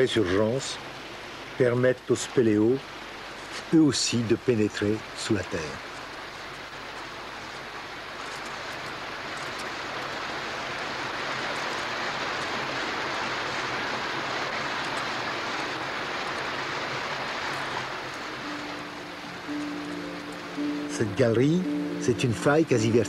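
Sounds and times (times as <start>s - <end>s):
white water rushing: 0.0s - 23.0s.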